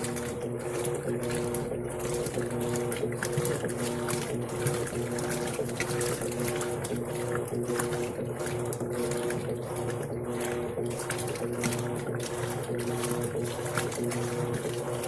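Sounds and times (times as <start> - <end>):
washing machine motor humming: 0.0 - 15.0
water splashing in tub: 0.0 - 15.0.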